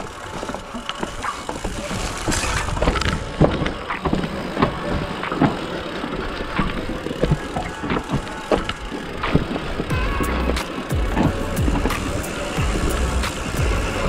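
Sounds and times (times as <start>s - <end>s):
bike knocking and rattling: 0.0s - 14.0s
bike tyres rumbling on dirt: 0.0s - 14.0s.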